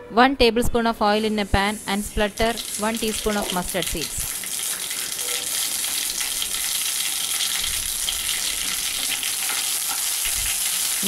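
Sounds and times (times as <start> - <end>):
seeds sizzling in hot oil: 1.1 - 11.0.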